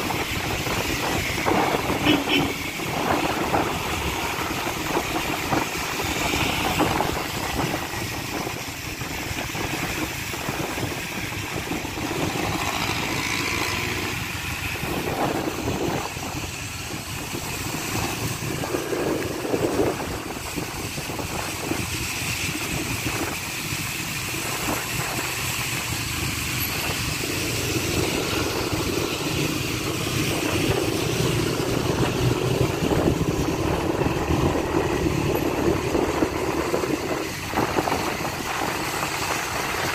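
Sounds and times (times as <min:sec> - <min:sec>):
motorcycle engine running: 0:00.0 - 0:39.9
tyres hissing on wet road: 0:00.0 - 0:39.9
wind noise: 0:00.0 - 0:39.9.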